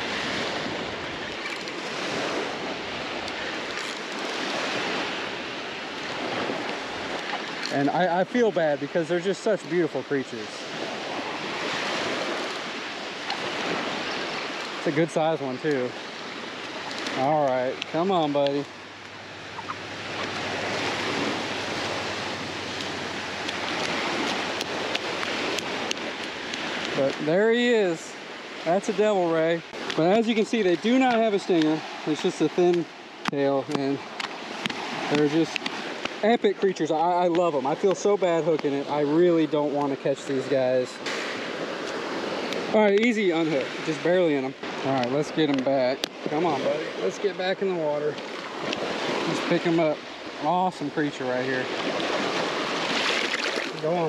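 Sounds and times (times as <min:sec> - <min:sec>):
surf washing up sand: 0:00.0 - 0:54.0.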